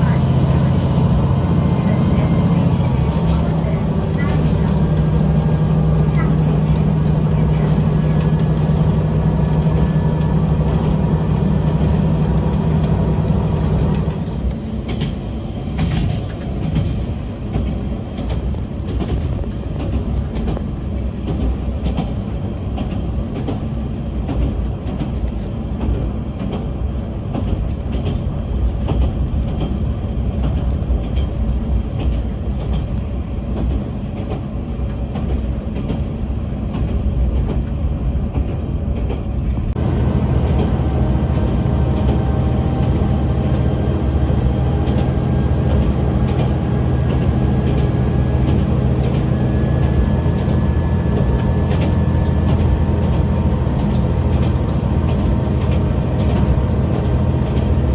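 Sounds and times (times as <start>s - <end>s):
diesel railcar engine drone: 0.0s - 57.9s
train wheels rumbling: 0.0s - 57.9s
wheels clicking over rail joints: 0.0s - 57.9s.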